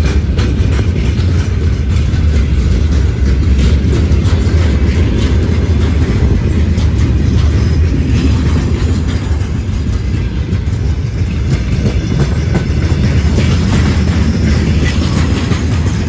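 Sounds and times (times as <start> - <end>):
steel wheels rumbling on rail: 0.0 - 16.0
wheels clacking over rail joints: 0.0 - 16.0.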